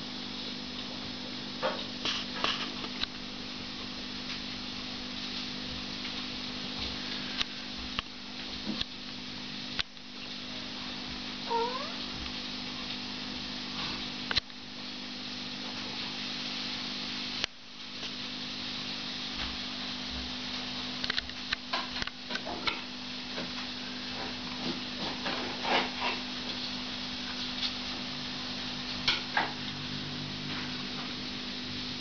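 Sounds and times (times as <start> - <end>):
low hum and hiss: 0.0 - 32.0.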